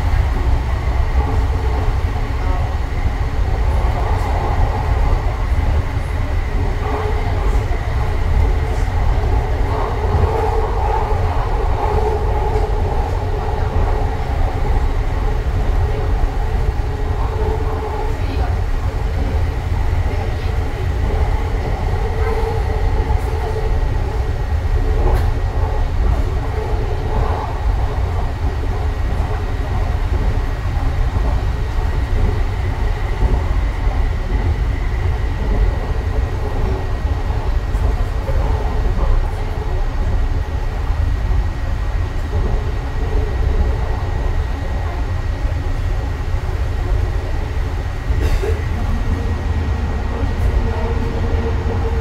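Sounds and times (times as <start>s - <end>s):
low rumble of wheels on rail: 0.0s - 52.0s.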